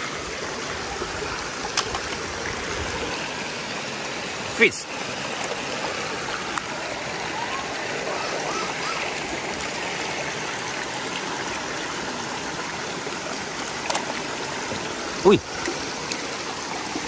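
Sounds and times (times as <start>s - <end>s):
stream water rushing over rocks: 0.0s - 17.0s.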